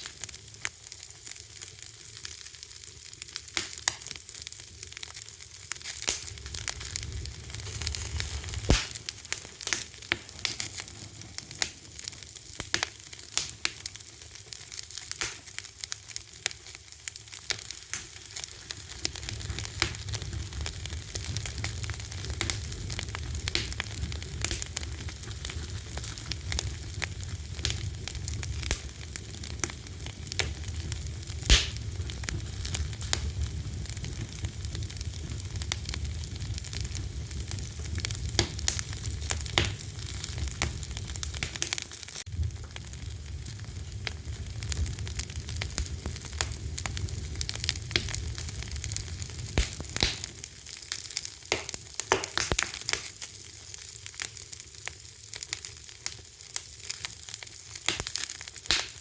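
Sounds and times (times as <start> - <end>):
fire crackling and popping: 0.0 - 59.0
low fire rumble: 0.0 - 59.0
wood fire hissing: 0.0 - 59.0.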